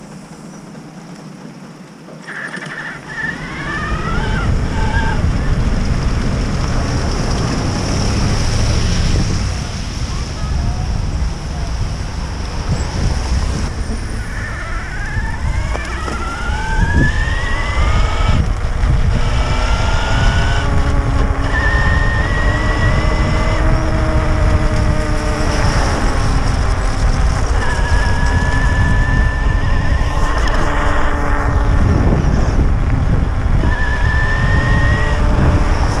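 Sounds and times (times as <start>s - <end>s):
wind and road rumble: 0.0s - 36.0s
electric motor whining: 2.2s - 9.3s, 12.7s - 36.0s.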